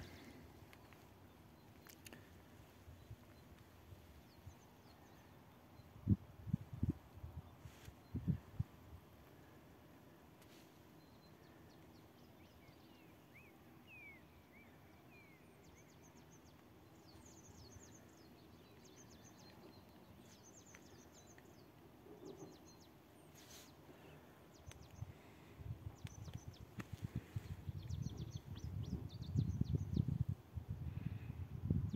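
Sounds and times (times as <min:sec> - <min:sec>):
faint birdsong: 0:00.0 - 0:31.9
low steady background hiss: 0:00.0 - 0:31.9.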